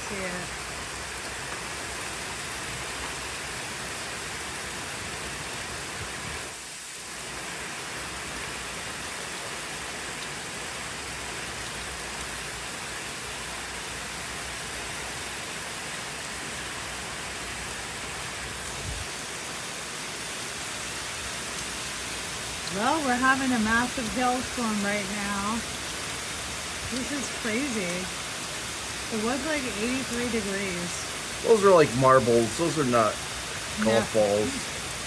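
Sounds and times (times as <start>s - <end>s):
hail and rain pouring down: 0.0s - 35.0s.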